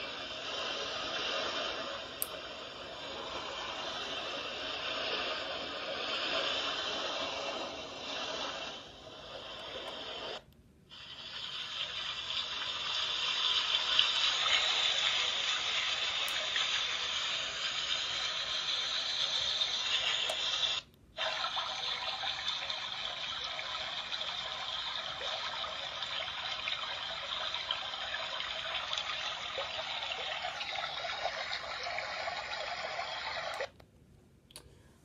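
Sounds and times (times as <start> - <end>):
sound machine water hiss: 0.0 - 33.7.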